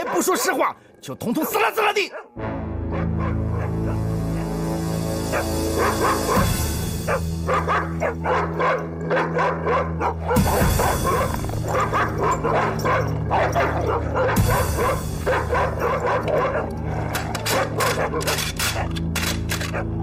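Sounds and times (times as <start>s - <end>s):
dogs barking and yipping: 0.0s - 0.8s, 2.1s - 20.0s
low tense music drone: 2.4s - 20.0s.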